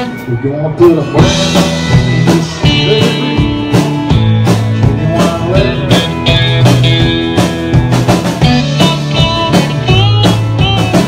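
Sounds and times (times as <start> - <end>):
country band playing: 0.0 - 11.0.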